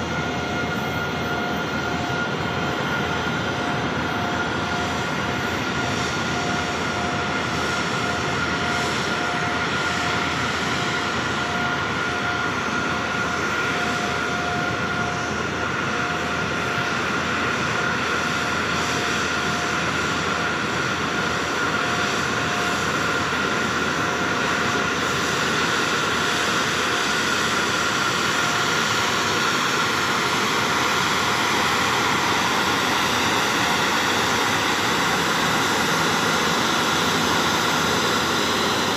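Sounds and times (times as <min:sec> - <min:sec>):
jet engines roaring with whine: 0:00.0 - 0:38.9.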